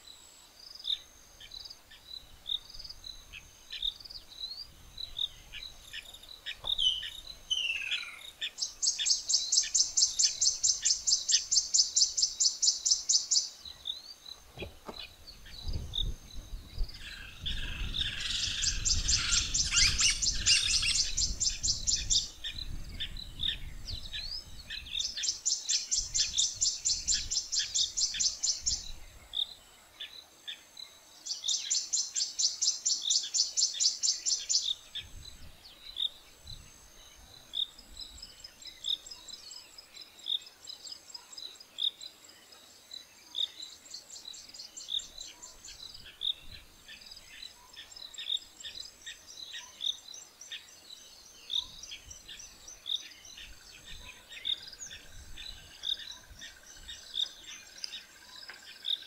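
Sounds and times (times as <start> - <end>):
faint high insect whine: 0.0 - 59.0.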